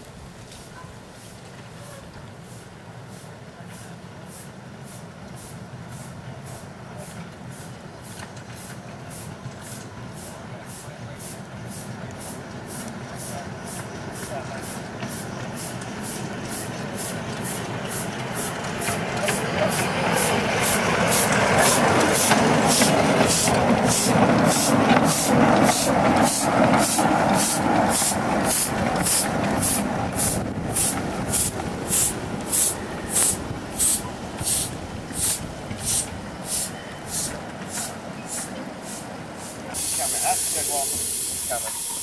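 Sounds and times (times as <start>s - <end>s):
steam locomotive chuffing: 2.4s - 42.0s
cars rumbling on track: 5.0s - 39.8s.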